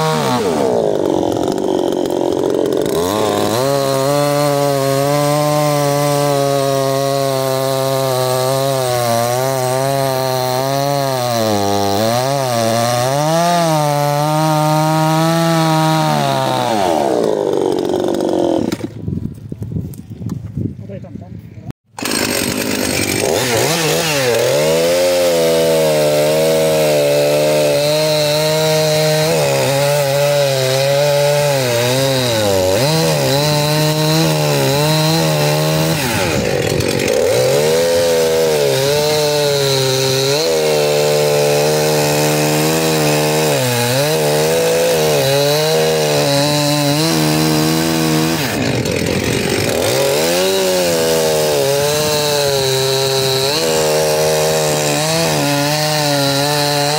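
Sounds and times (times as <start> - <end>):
chainsaw cutting log: 0.0 - 19.2, 21.9 - 56.9.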